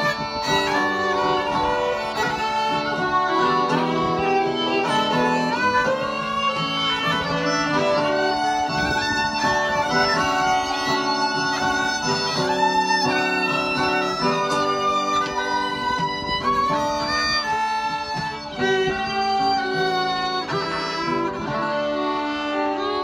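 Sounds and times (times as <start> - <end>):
two fiddles playing slow tune: 0.0 - 23.0.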